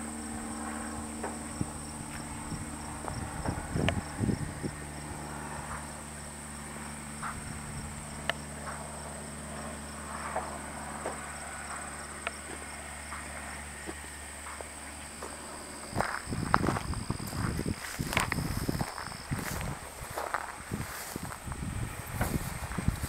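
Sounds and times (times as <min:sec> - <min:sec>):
car engine idling: 0:00.0 - 0:21.2
insects chirping: 0:00.0 - 0:23.0.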